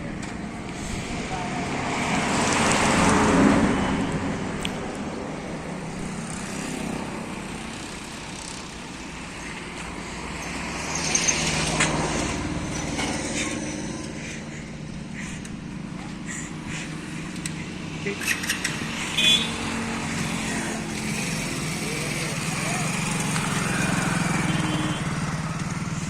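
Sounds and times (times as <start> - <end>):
tractor diesel engine running: 3.3 - 26.0.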